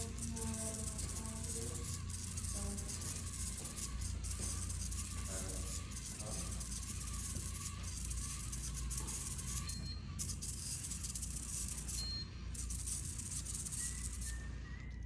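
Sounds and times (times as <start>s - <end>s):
robot vacuum running: 0.0s - 15.0s.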